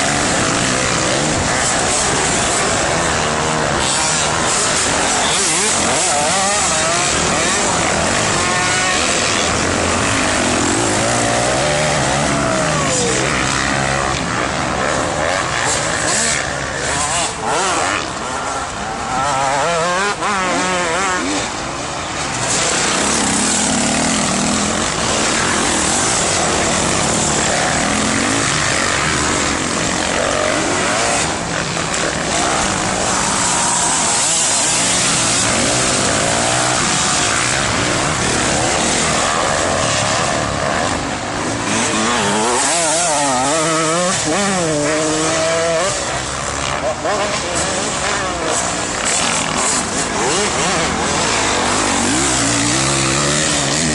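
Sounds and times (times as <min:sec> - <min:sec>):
dirt bike engines revving: 0:00.0 - 0:53.9.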